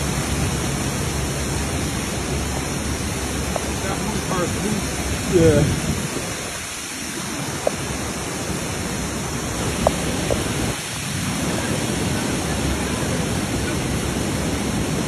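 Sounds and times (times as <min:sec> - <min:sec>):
floodwater rushing: 0:00.0 - 0:15.0
rain falling: 0:00.0 - 0:15.0.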